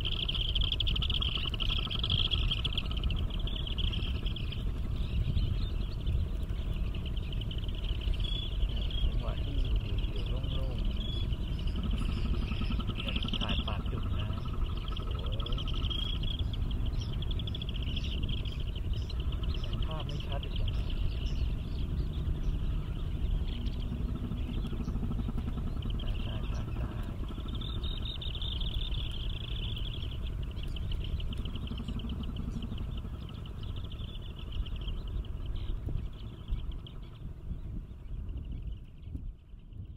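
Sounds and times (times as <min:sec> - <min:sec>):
faint calls: 0:00.0 - 0:39.9
low rumble: 0:00.0 - 0:39.9.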